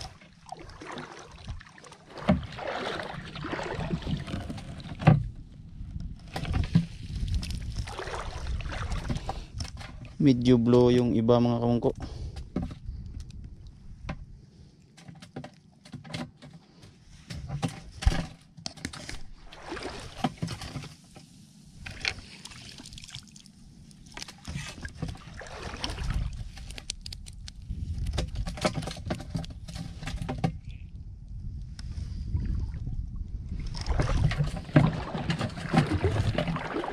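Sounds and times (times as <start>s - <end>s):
water splashing and sloshing: 0.0s - 31.0s, 31.8s - 36.9s.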